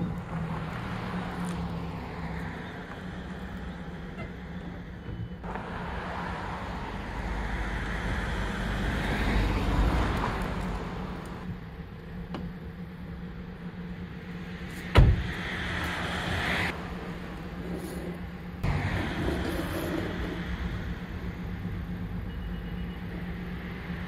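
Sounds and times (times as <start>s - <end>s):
rushing road noise: 0.0s - 24.0s
vehicle hum: 0.0s - 24.0s.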